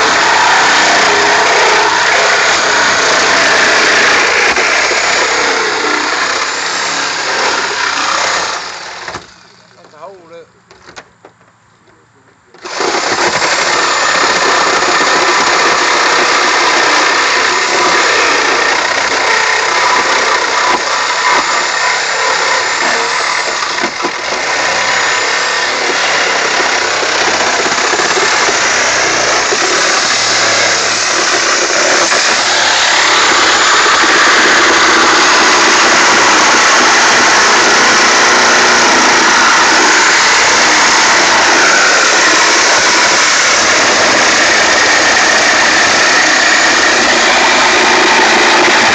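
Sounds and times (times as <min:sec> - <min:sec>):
reciprocating saw cutting sheet metal: 0:00.0 - 0:10.1, 0:12.6 - 0:48.9.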